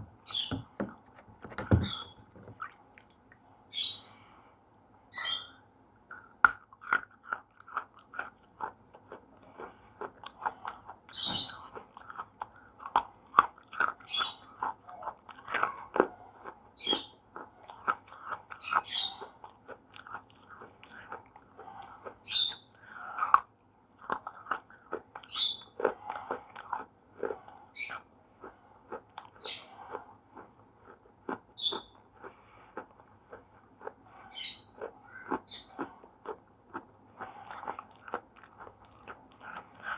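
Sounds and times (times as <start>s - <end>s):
slate pencil being chewed: 6.1s - 27.7s, 28.4s - 39.9s.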